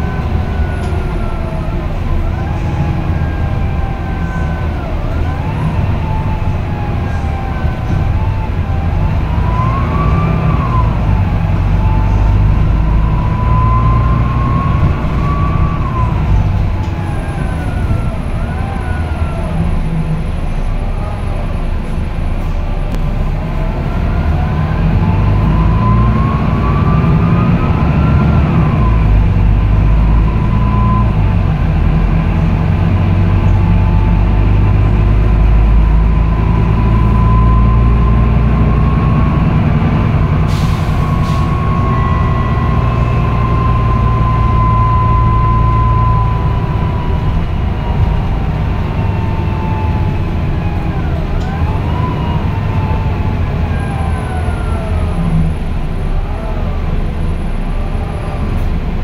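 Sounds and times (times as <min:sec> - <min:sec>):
diesel bus engine droning: 0:00.0 - 0:59.0.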